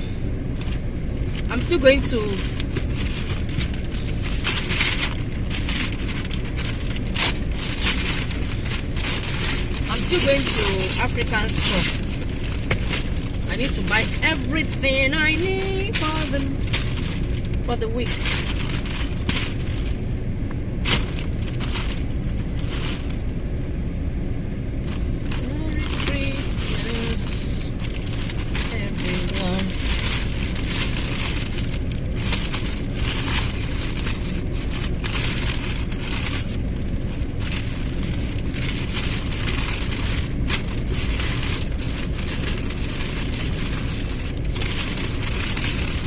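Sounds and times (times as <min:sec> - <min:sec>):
car interior rumble: 0:00.0 - 0:46.0.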